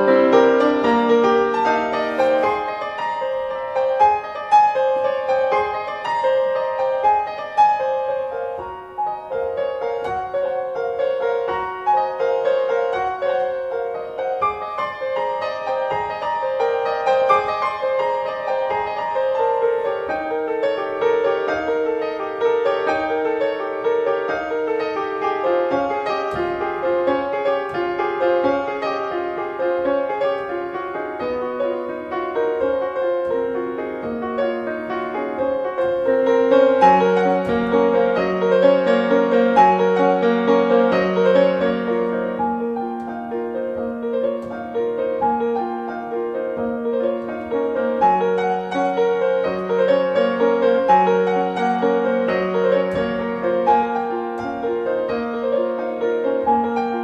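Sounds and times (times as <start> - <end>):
classical keyboard music: 0.0 - 57.0.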